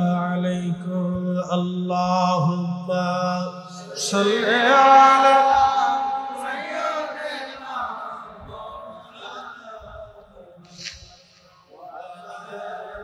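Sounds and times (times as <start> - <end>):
man chanting: 0.0 - 10.5.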